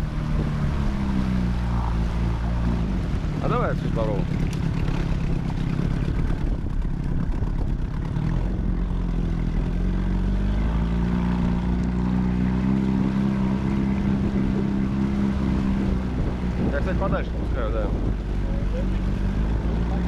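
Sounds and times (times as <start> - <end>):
outboard motor humming: 0.0 - 20.0.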